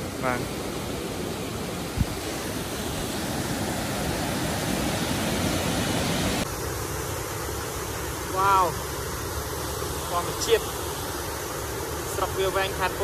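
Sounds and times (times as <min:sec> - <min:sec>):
waterfall splashing over rocks: 0:02.3 - 0:13.0.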